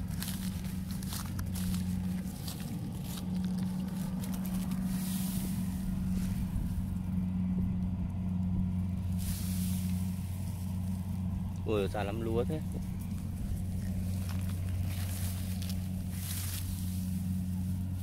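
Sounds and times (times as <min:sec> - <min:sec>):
combine harvester engine humming: 0:00.0 - 0:18.0.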